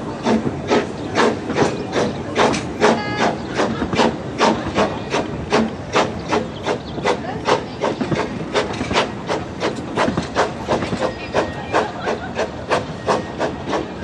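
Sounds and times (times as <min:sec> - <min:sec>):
rumble and hiss of rolling coaches: 0:00.0 - 0:14.0
steam locomotive beats: 0:00.0 - 0:14.0.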